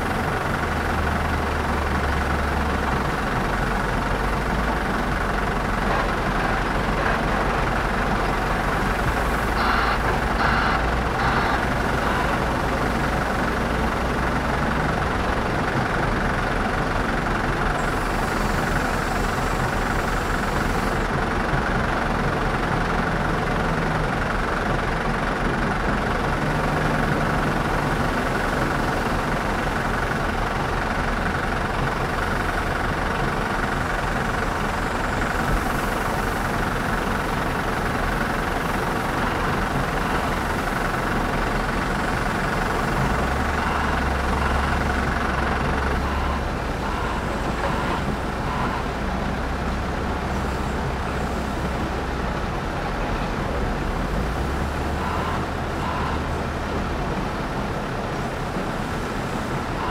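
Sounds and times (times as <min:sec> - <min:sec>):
truck idling: 0:00.0 - 0:59.9
wheel loader engine: 0:00.0 - 0:59.9.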